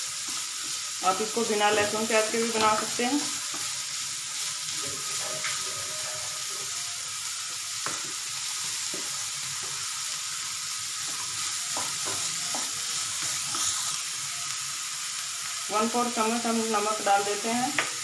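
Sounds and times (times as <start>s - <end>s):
vegetables sizzling in frying pan: 0.0s - 18.0s.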